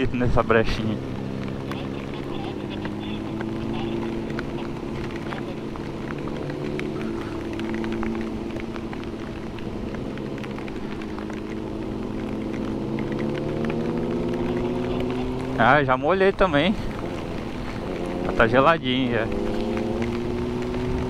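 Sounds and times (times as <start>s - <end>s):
motorcycle engine running: 0.0s - 21.0s
raindrops ticking on camera: 0.0s - 21.0s.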